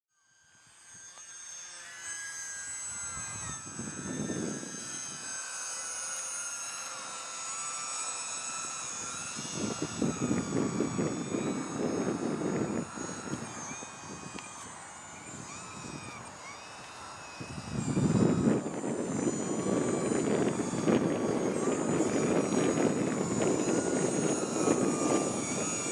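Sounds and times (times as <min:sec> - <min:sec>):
rc plane electric motors whining: 0:00.1 - 0:25.9.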